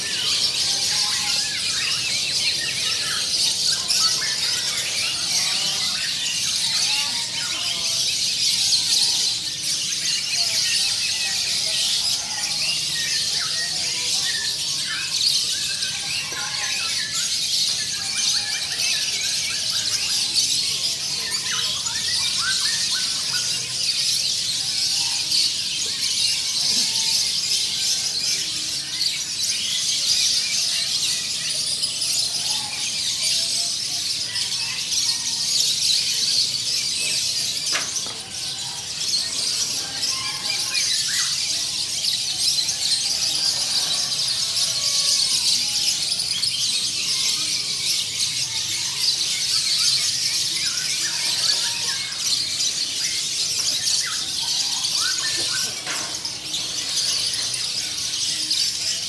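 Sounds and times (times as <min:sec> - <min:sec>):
caged songbirds singing and chirping: 0:00.0 - 0:59.0.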